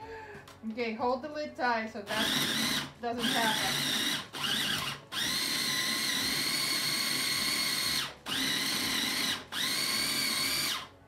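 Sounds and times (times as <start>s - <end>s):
food processor motor whine: 2.1s - 11.0s.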